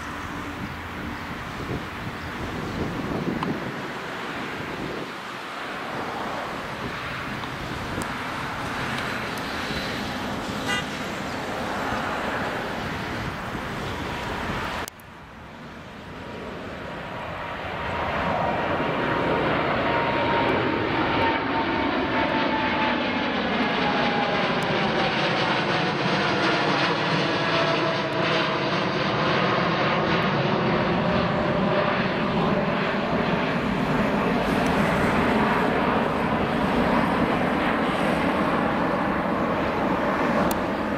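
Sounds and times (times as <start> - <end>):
jet engines roaring at takeoff: 0.0 - 40.9.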